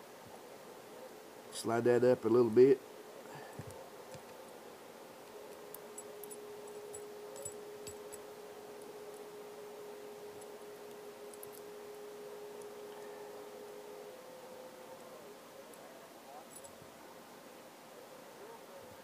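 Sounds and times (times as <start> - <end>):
faint background hiss: 0.0 - 19.0
thin hum-like tone: 0.0 - 19.0.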